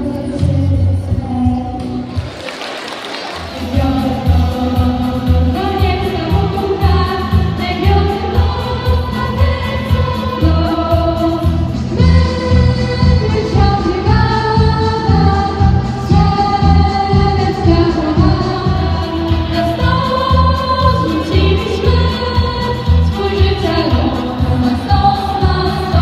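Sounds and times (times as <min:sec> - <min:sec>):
girls singing through pa: 0:03.6 - 0:26.0.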